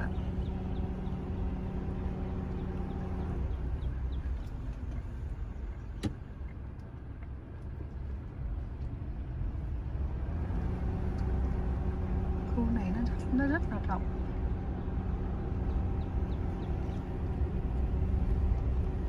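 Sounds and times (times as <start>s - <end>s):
car and tyres rumbling: 0.0s - 19.0s
low hum: 0.0s - 19.0s.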